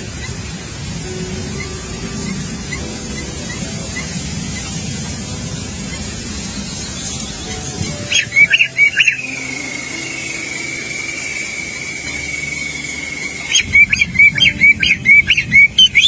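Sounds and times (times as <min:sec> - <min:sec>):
songbird whistling: 0:00.0 - 0:16.0
thin steady high tone: 0:00.0 - 0:16.0.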